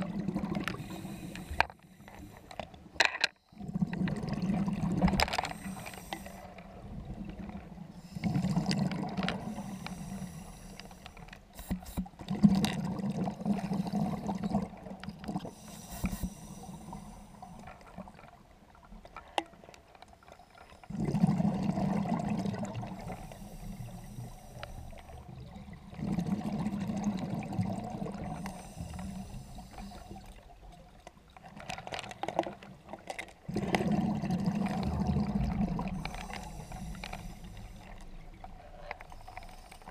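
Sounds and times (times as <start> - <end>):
underwater exhaled bubbles gurgling: 0.0 - 19.7, 20.6 - 39.9.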